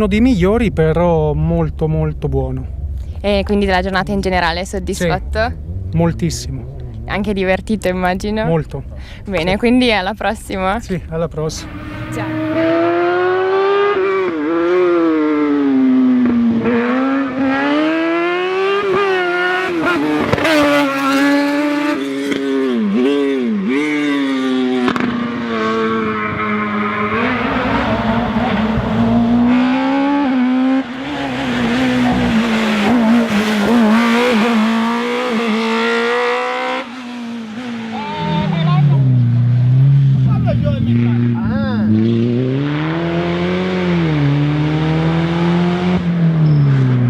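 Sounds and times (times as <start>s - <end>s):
race car engine revving: 0.0s - 8.9s, 11.3s - 47.0s.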